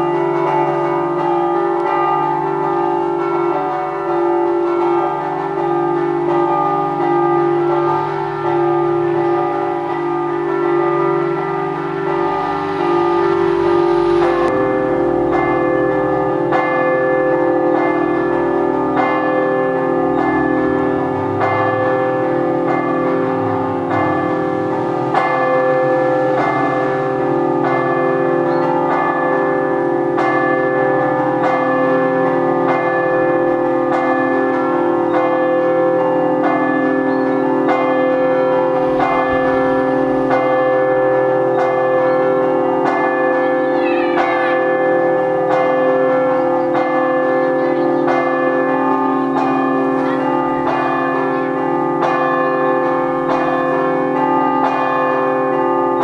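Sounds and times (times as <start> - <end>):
church bells ringing in rhythm: 0.0 - 56.0.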